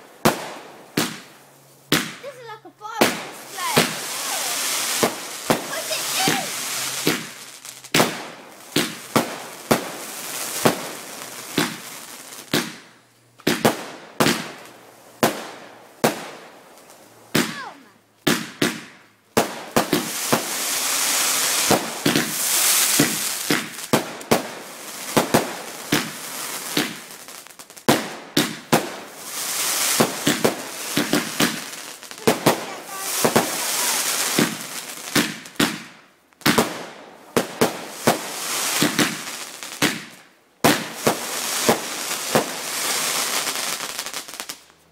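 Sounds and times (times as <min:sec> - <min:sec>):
fireworks bangs: 0:00.0 - 0:44.6
fireworks crackling hiss: 0:00.0 - 0:44.9.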